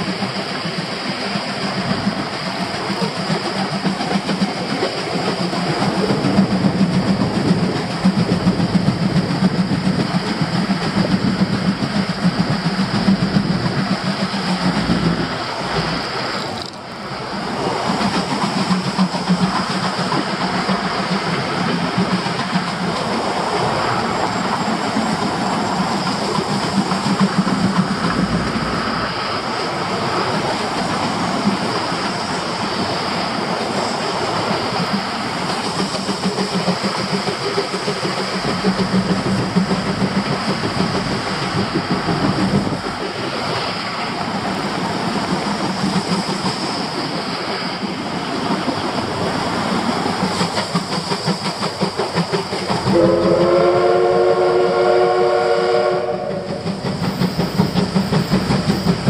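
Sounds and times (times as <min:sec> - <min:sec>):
train running with rail clatter: 0:00.0 - 0:59.0.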